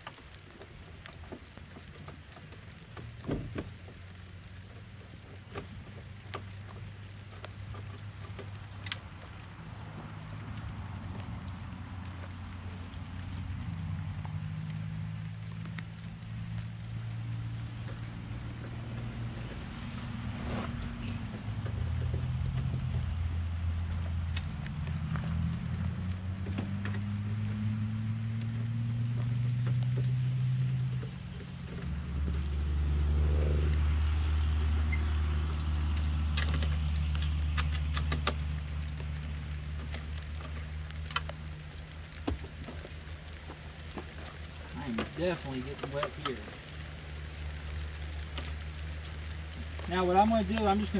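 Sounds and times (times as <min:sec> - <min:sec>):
light rain patter: 0:00.0 - 0:50.9
small clicks and knocks: 0:00.0 - 0:50.9.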